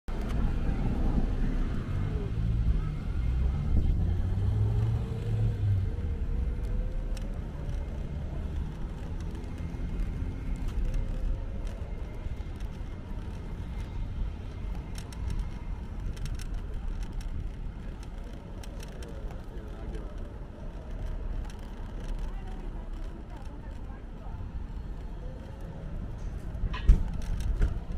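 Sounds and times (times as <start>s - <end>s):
road traffic rumble: 0.1s - 27.9s.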